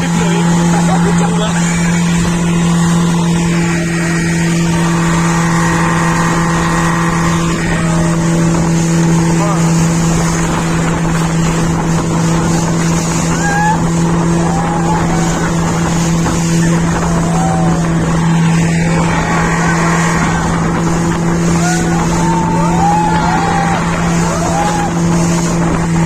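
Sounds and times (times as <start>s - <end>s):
motorboat engine droning: 0.0s - 26.0s
water noise: 0.0s - 26.0s.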